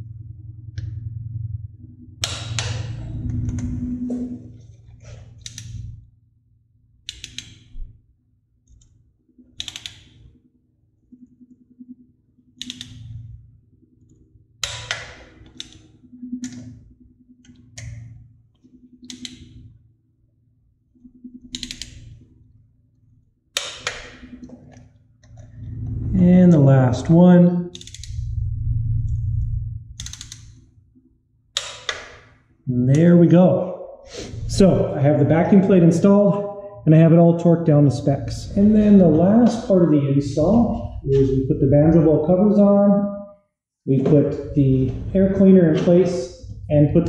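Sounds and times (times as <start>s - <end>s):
faint low hum: 0.0s - 47.0s.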